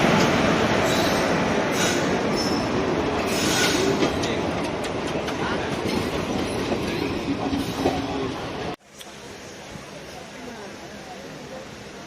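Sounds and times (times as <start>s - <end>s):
train running on rails: 0.0s - 12.0s.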